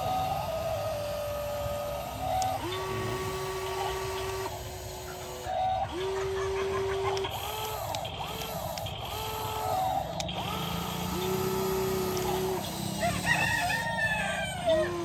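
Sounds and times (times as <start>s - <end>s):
toy electric motors whining: 0.0s - 15.0s.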